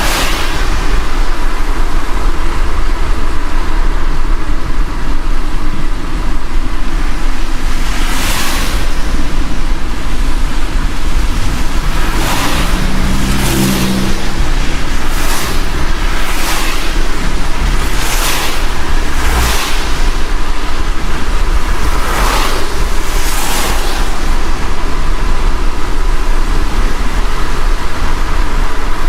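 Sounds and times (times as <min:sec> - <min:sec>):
engine and road rumble: 0:00.0 - 0:29.0
pitched engine hum: 0:00.0 - 0:29.0
wet road hiss: 0:00.0 - 0:29.0.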